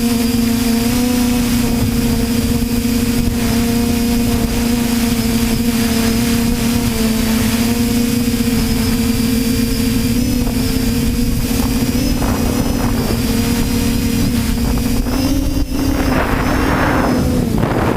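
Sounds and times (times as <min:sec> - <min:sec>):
drone motors whining: 0:00.0 - 0:17.9
wind rumble on microphone: 0:00.0 - 0:17.9.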